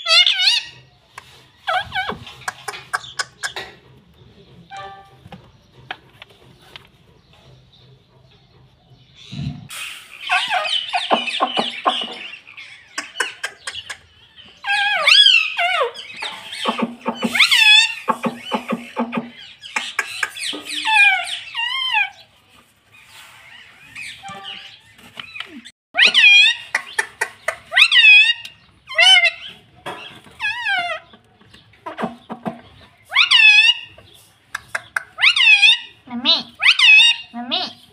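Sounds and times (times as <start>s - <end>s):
parakeets chattering and screeching: 0.0s - 37.9s.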